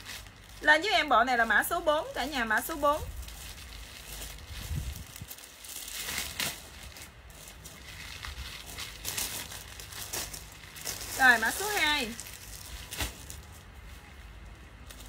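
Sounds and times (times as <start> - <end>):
clothes rustling: 0.0 - 15.0
plastic bag crinkling: 0.0 - 15.0.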